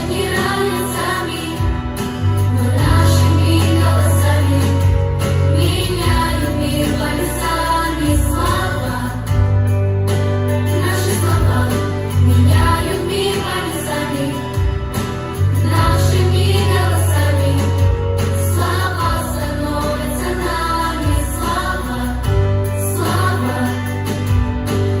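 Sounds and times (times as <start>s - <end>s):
group of voices singing: 0.0s - 9.8s, 10.4s - 25.0s
pop backing track with bass: 0.0s - 25.0s.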